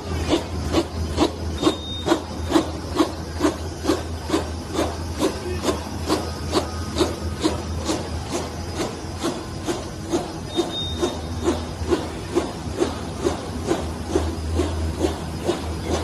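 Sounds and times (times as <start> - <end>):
low machine hum: 0.0 - 16.0
machine clacking: 0.0 - 16.0.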